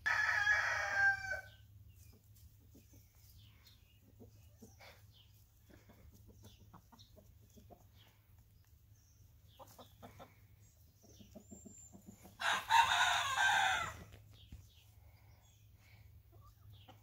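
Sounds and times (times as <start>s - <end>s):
hens clucking: 1.8s - 17.0s.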